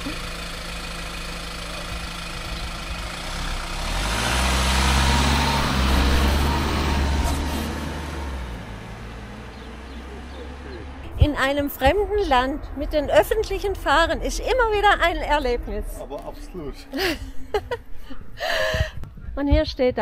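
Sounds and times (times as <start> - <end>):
minibus engine idling and revving: 0.0 - 19.0.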